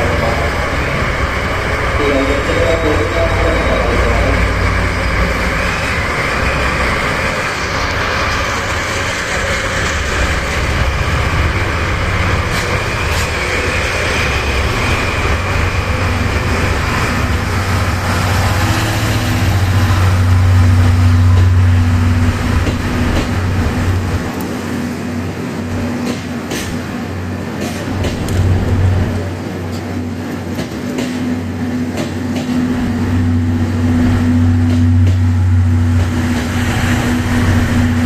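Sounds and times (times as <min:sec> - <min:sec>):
diesel locomotive engine rumble: 0:00.0 - 0:38.0.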